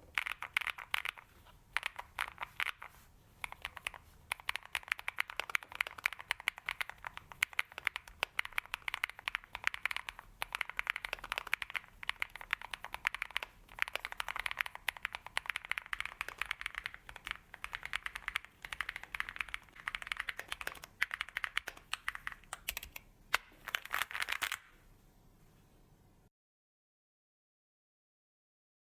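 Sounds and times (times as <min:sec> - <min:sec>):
mechanical keyboard typing: 0:00.0 - 0:24.7.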